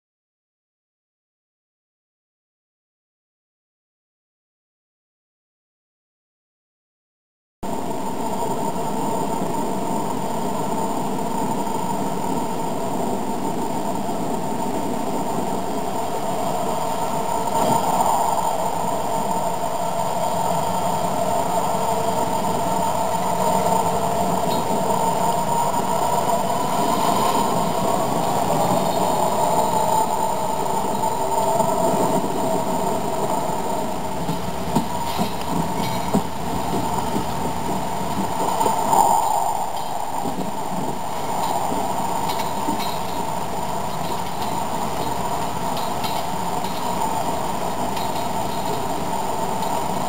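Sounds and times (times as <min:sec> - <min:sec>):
model train diesel engine rumble: 0:07.6 - 0:50.0.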